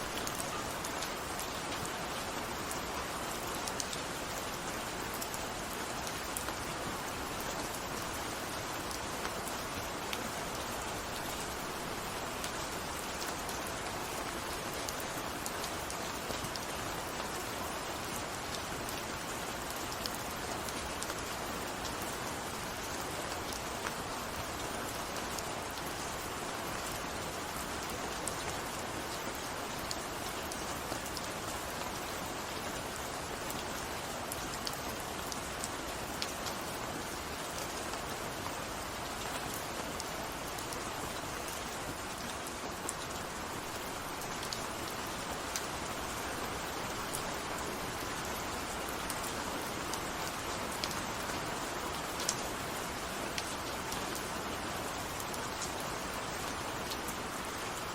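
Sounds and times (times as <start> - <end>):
rainfall: 0.0 - 57.9.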